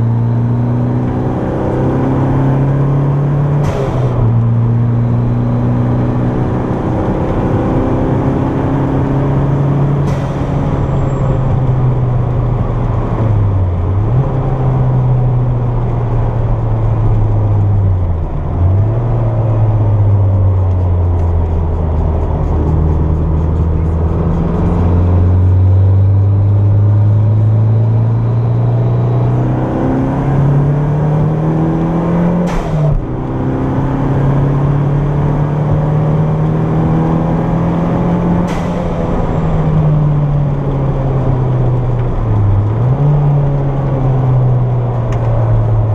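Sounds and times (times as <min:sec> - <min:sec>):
car engine under load: 0:00.0 - 0:45.9.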